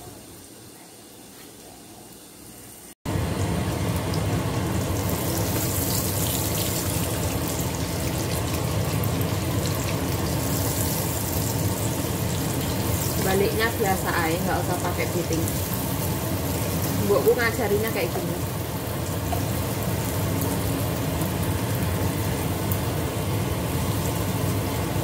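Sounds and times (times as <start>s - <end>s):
omelette sizzling in oil: 2.8s - 25.0s.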